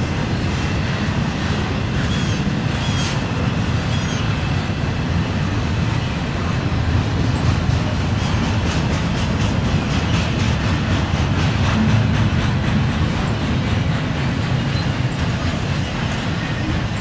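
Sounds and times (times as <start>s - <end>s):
freight train wheels rumbling: 0.0s - 17.0s
wheels clicking over rail joints: 0.0s - 17.0s.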